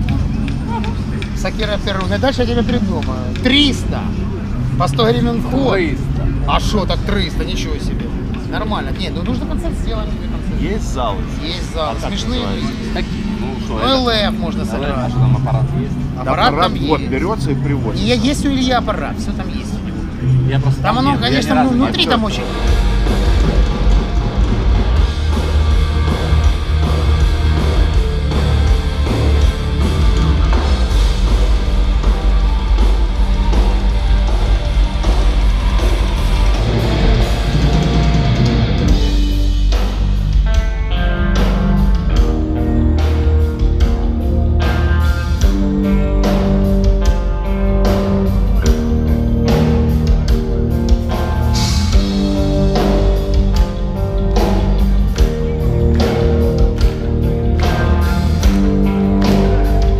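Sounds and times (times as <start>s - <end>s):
distorted guitars: 0.0s - 59.9s
drums: 0.0s - 59.9s.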